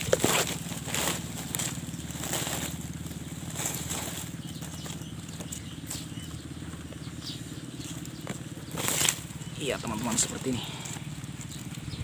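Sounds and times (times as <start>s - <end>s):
rustling dry grass: 0.0s - 6.8s, 7.6s - 12.0s.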